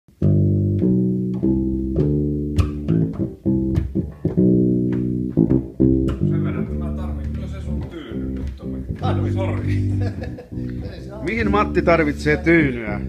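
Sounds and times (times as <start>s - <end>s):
electric bass guitar notes: 0.1s - 13.0s.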